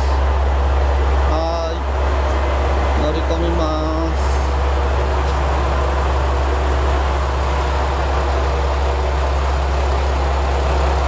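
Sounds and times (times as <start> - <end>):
diesel railcar idling: 0.0 - 11.0.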